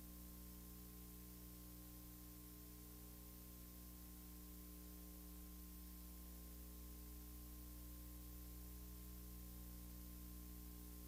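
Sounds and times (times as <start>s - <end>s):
steady low hum with hiss: 0.0s - 11.0s.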